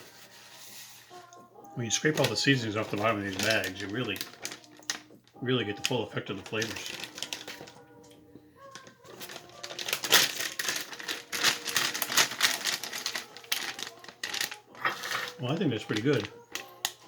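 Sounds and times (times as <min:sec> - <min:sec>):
chip bag crinkling: 0:00.1 - 0:08.0, 0:08.6 - 0:17.0.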